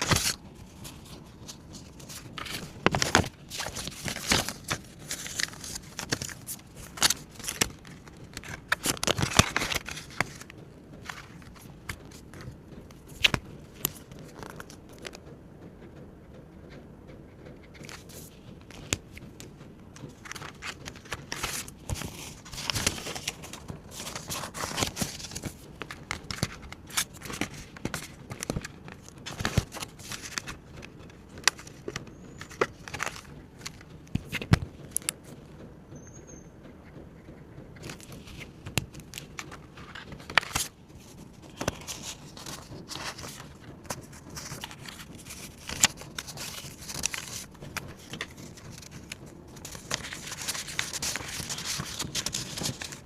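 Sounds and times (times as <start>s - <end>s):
paper crinkling and rustling: 0.0s - 15.2s, 17.6s - 35.4s, 37.7s - 53.0s.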